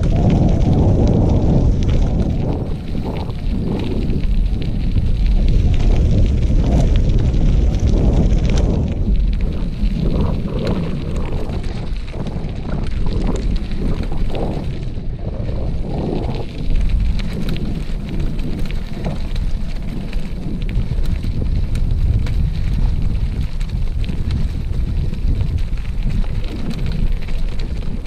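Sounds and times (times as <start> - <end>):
crackles from gravel trail: 0.0 - 28.0
wind buffeting microphone: 0.0 - 28.0.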